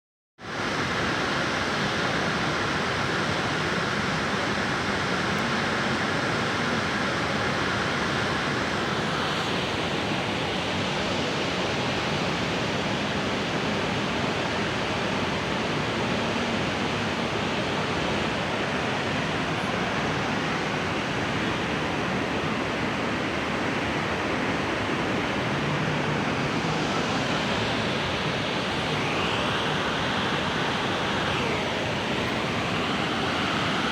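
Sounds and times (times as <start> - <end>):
waterfall roaring: 0.5 - 33.9.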